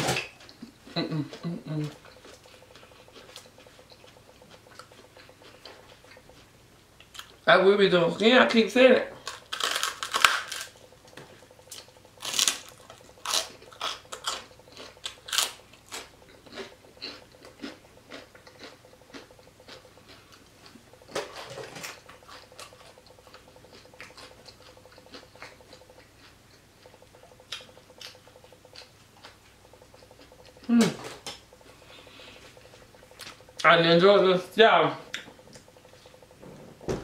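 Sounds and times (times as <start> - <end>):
crunchy chewing: 0.4 - 7.4, 9.1 - 33.7, 35.0 - 36.5.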